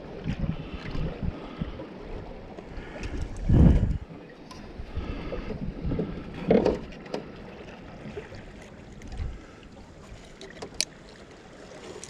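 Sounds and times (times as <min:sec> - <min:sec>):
light wind noise: 0:00.0 - 0:12.0.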